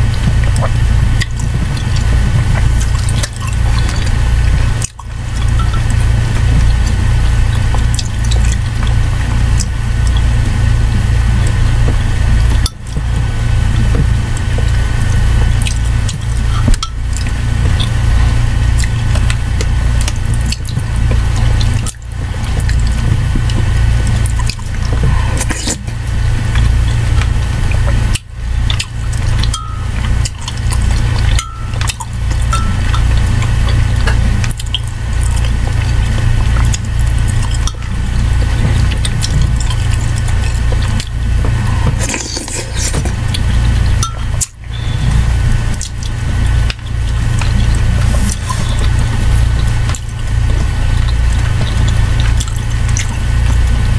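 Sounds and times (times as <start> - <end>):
slurping and chewing: 0.0 - 53.9
steady low hum: 0.0 - 53.9.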